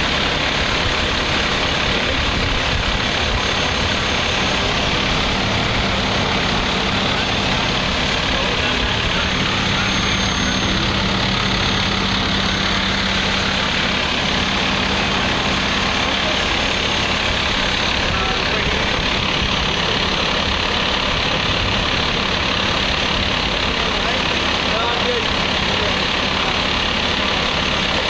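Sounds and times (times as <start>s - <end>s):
diesel engines idling: 0.0s - 28.0s.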